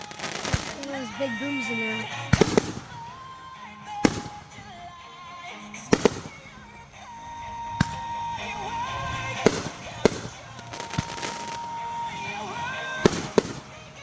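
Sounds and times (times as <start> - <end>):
fireworks booming: 0.0 - 5.0, 5.8 - 14.0
background music with singing: 0.0 - 14.0.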